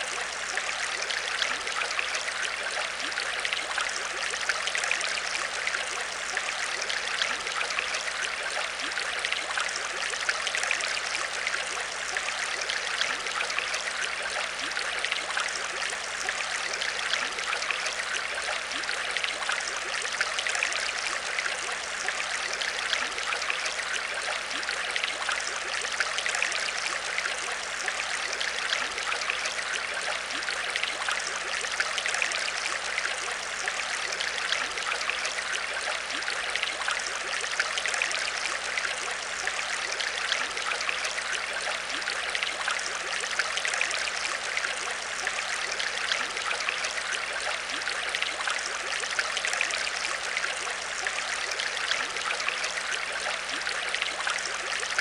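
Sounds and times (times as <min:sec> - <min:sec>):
aquarium water trickling: 0:00.0 - 0:55.0.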